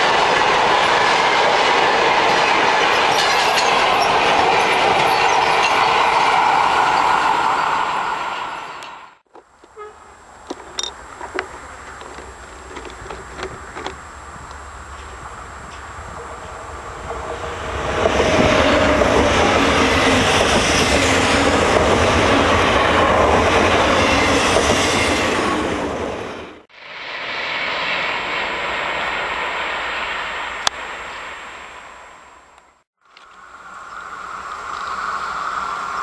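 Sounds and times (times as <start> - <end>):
train passing close at speed: 0.0 - 9.2, 11.0 - 32.8, 33.4 - 36.0
distant train running: 0.0 - 32.6, 33.3 - 36.0.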